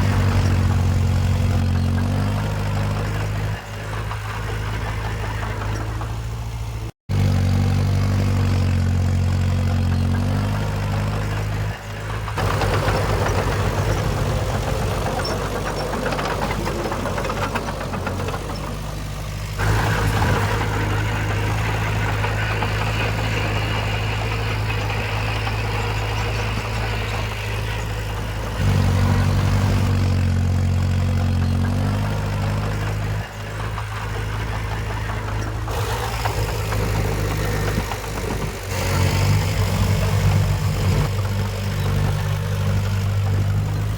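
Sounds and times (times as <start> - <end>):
heavy machinery diesel engines: 0.0 - 43.9.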